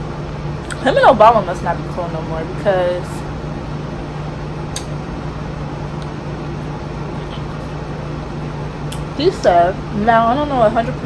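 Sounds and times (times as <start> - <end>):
low mechanical hum of machinery: 0.0 - 11.0.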